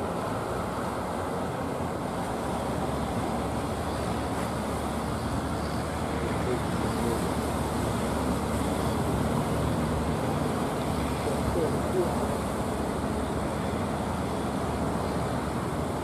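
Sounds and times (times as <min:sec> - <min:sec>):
boat engines rumbling: 0:00.0 - 0:16.0
wind: 0:00.0 - 0:16.0.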